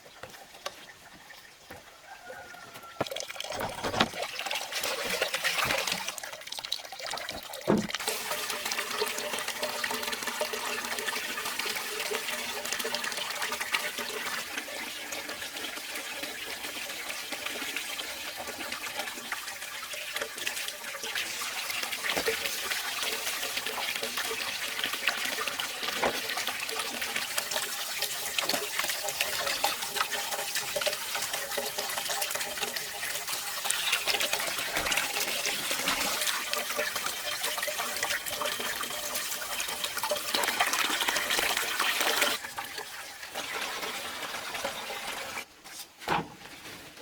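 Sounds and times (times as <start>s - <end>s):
water running: 2.6s - 45.5s.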